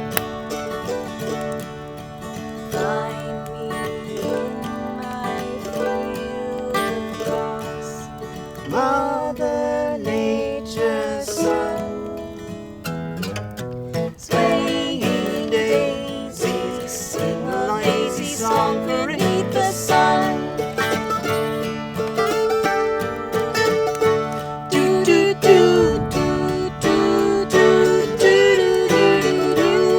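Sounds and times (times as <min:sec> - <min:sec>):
plucked string instrumental music: 0:00.0 - 0:29.9.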